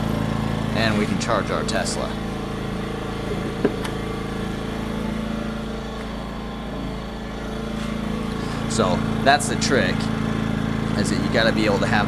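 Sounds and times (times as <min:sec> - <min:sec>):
generator humming: 0:00.0 - 0:12.0.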